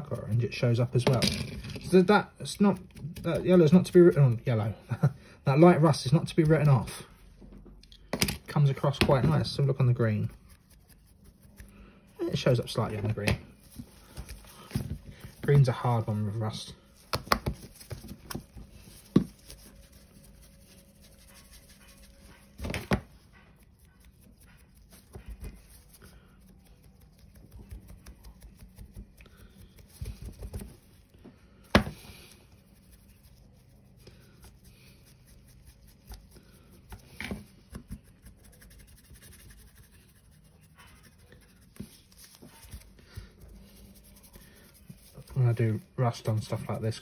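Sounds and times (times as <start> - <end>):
paintbrush scrubbing on plastic: 1.8 - 7.4, 8.5 - 31.2, 31.9 - 47.0.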